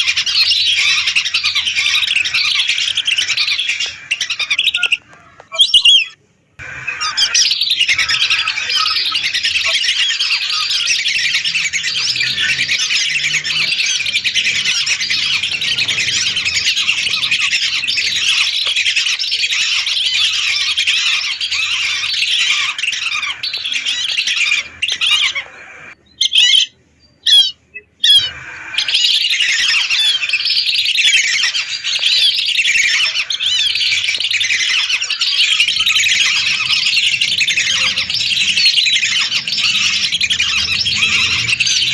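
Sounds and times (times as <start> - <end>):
whistling ducks calling: 0.0 - 41.9.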